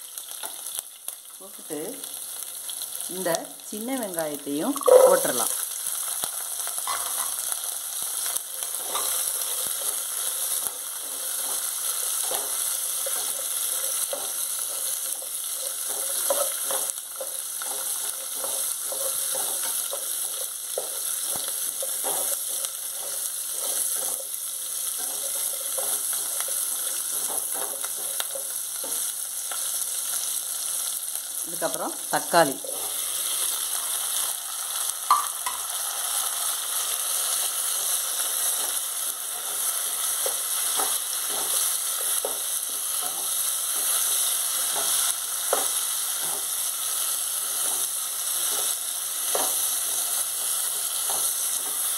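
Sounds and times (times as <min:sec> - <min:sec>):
onions sizzling in hot oil: 0:00.0 - 0:51.9.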